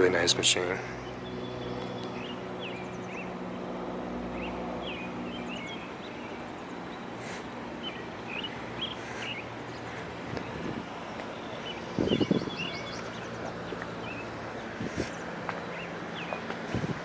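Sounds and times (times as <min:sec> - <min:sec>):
birds chirping: 0:00.0 - 0:17.0
low machine hum: 0:00.0 - 0:17.0.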